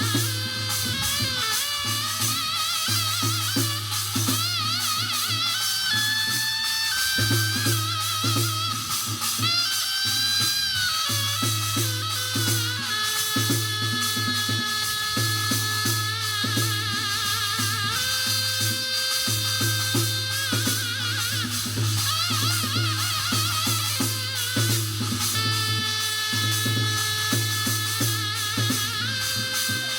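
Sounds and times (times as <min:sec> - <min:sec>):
drum and percussion strokes: 0:00.0 - 0:29.9
wind instrument melody: 0:00.0 - 0:29.9.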